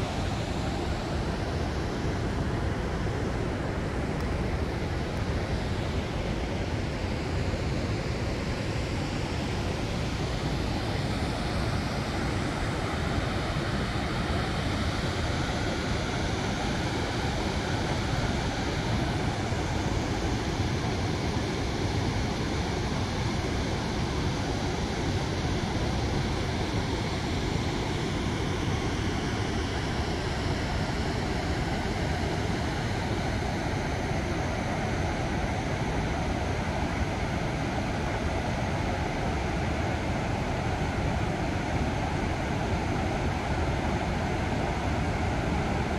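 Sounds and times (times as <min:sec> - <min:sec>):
waterfall: 0:00.0 - 0:45.9.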